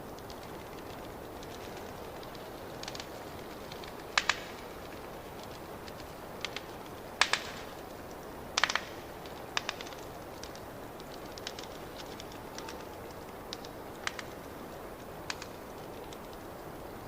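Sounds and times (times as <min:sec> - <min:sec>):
steady hiss: 0:00.0 - 0:17.0
wood fire crackling: 0:00.0 - 0:17.0.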